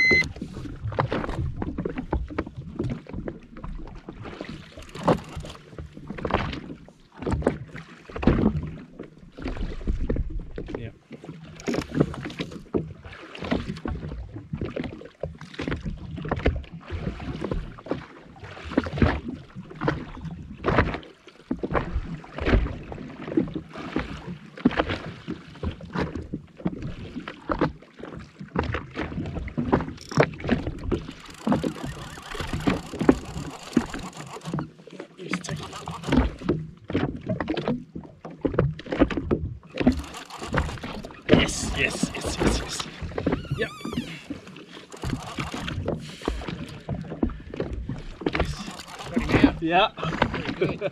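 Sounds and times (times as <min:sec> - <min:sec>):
small waves slapping against hull: 0:00.0 - 0:50.9.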